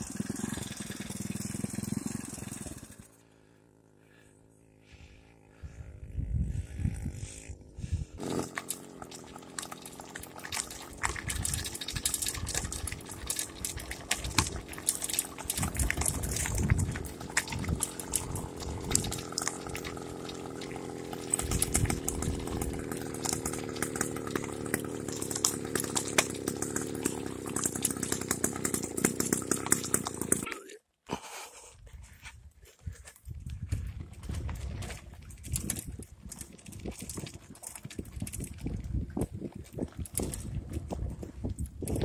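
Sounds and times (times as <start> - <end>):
small engine buzzing: 0.0 - 30.6, 34.6 - 42.0.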